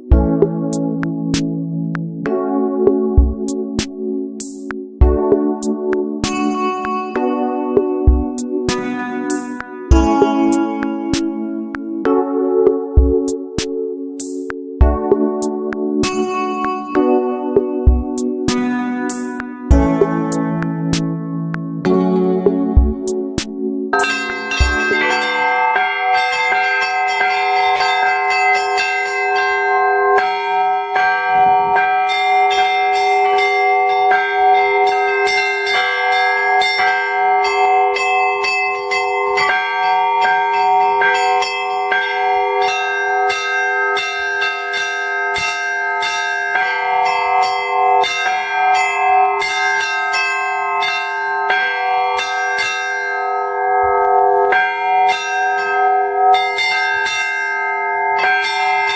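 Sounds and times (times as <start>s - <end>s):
church bells pealing: 5.4s - 12.6s, 14.9s - 17.6s, 18.2s - 22.4s, 23.6s - 58.9s.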